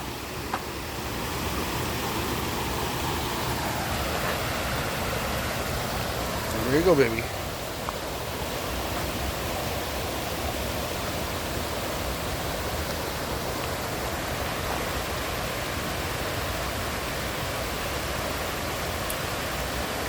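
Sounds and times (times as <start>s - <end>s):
waterfall and river rushing: 0.0s - 20.0s.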